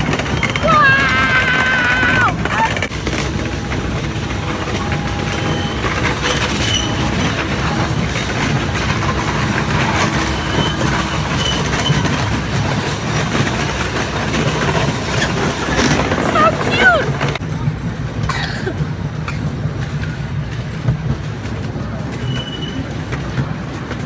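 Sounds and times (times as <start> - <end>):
miniature train wheels on rails: 0.0 - 24.0.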